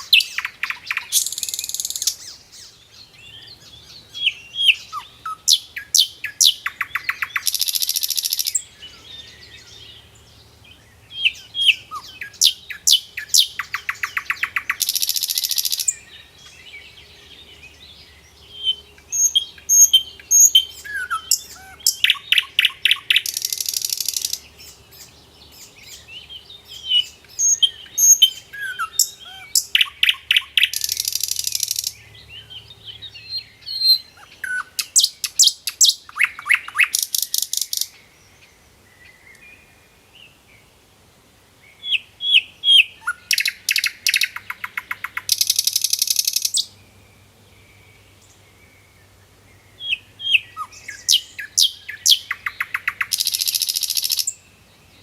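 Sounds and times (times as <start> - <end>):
birds chirping: 0.0 - 40.8, 41.6 - 55.0.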